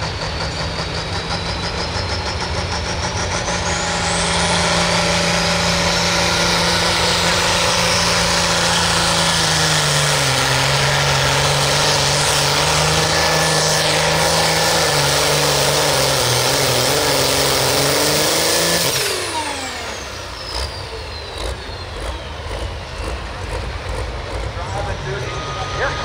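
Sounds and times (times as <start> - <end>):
engine winding down with whine: 0.0 - 26.0
tractor engine running flat out: 0.0 - 26.0.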